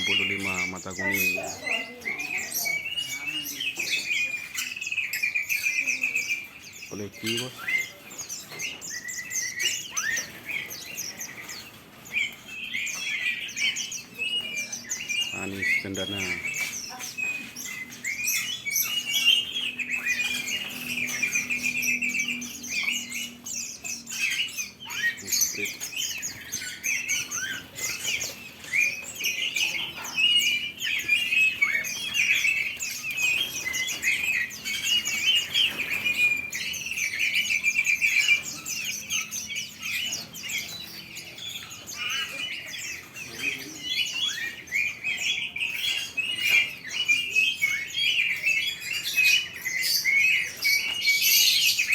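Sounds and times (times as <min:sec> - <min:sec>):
songbirds chirping and twittering: 0:00.0 - 0:51.9.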